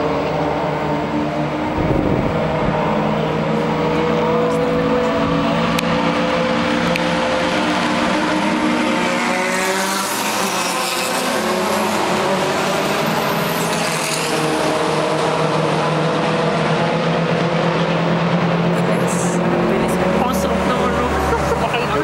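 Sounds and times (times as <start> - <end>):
racing car engines droning: 0.0 - 22.0.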